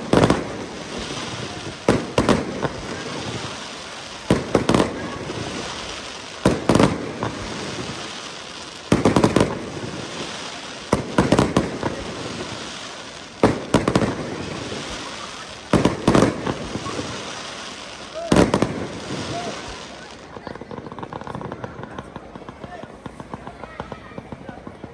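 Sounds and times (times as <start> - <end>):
crackling hiss: 0.0 - 24.9
firework bangs: 0.0 - 24.9.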